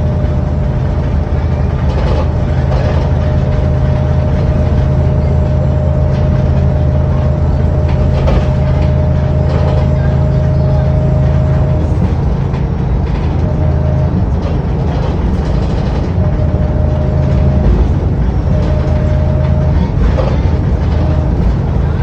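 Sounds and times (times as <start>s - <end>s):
bus diesel engine: 0.0s - 22.0s.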